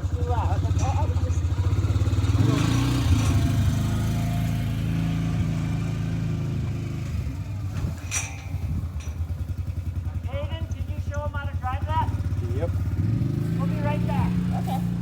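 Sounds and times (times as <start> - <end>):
small vehicle engine revving: 0.0 - 15.0.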